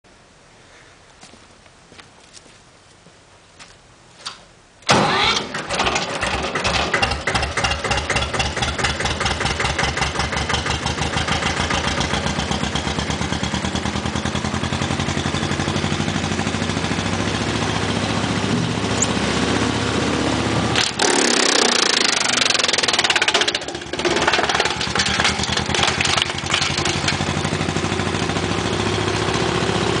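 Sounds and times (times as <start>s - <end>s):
diesel tractor engine running: 4.8s - 30.0s.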